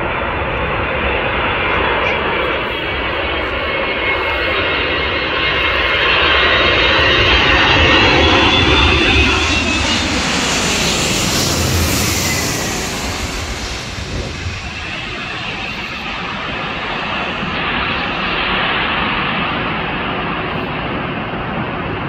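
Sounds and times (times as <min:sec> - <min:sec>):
high engine whine: 0:00.0 - 0:22.0
jet aircraft flying overhead: 0:00.0 - 0:22.0
wind rumble on microphone: 0:00.0 - 0:22.0.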